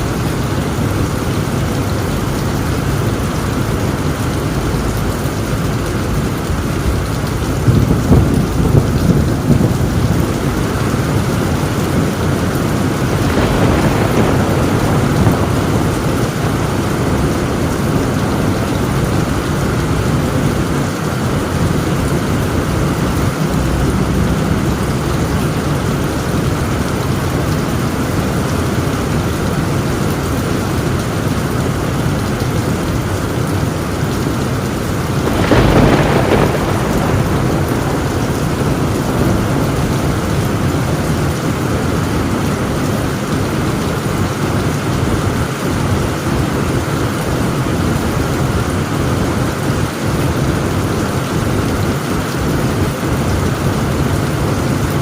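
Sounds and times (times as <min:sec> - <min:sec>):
thunderclap: 0:00.0 - 0:29.3, 0:34.4 - 0:55.0
heavy rain on a tin roof: 0:00.0 - 0:55.0.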